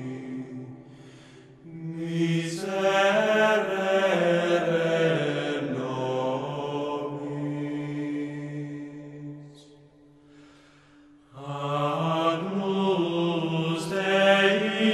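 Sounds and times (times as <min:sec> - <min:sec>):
slow chant-like vocal music: 0:00.0 - 0:14.9.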